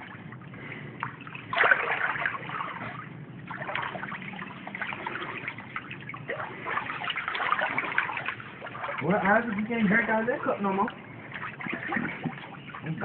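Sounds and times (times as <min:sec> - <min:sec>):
floodwater sloshing and splashing: 0:00.0 - 0:13.0.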